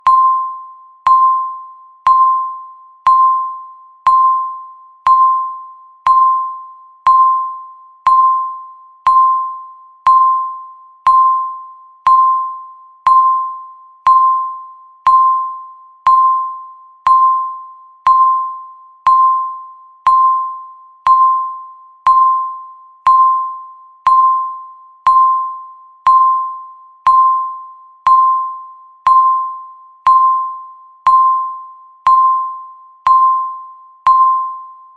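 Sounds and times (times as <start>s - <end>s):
countdown timer beeps: 0.0s - 34.9s.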